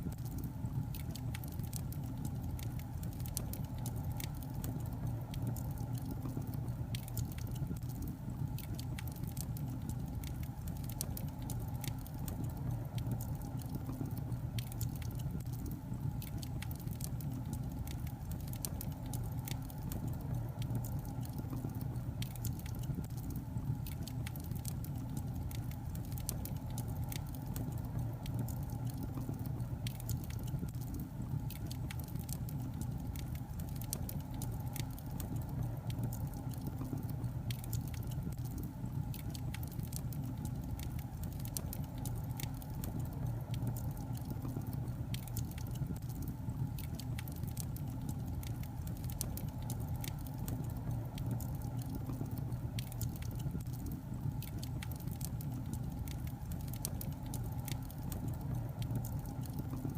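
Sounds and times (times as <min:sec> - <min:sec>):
logs crackling in fireplace: 0:00.0 - 0:59.9
low fire rumble: 0:00.0 - 0:59.9
sharp pops and snaps: 0:00.0 - 0:59.9.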